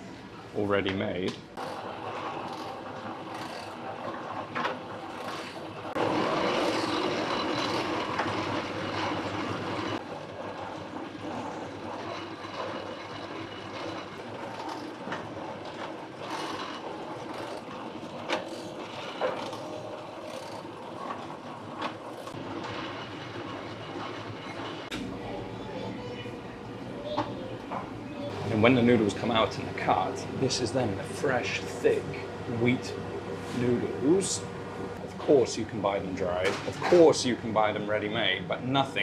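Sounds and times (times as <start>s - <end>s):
noodle machine rumbling: 1.6s - 39.0s.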